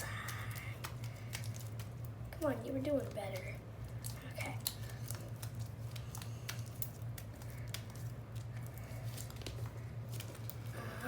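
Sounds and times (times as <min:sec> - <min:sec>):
slime squishing by hand: 0:00.0 - 0:11.0.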